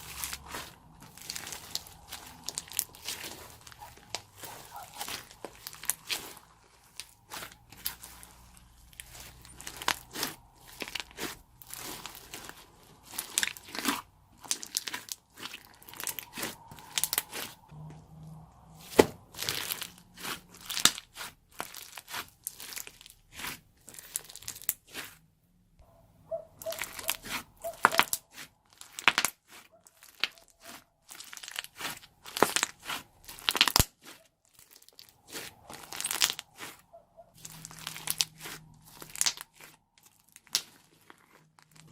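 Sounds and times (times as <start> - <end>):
crunchy slime squeezed by hand: 0.0 - 17.7, 18.8 - 25.2, 26.6 - 41.9.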